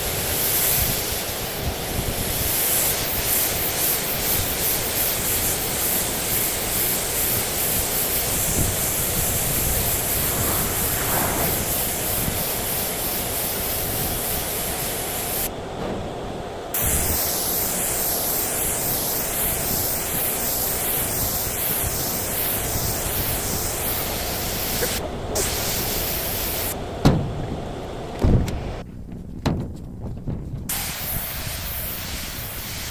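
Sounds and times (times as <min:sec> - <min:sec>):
paint spray gun hissing: 0:00.0 - 0:15.5, 0:16.8 - 0:26.8, 0:30.7 - 0:32.9.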